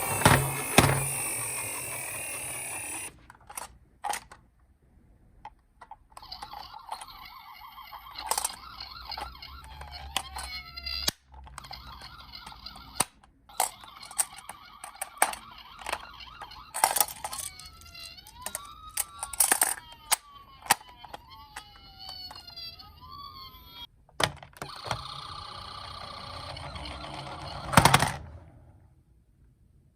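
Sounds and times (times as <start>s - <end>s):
toy electronic sirens: 0.0s - 3.2s, 6.2s - 23.9s, 24.6s - 28.1s.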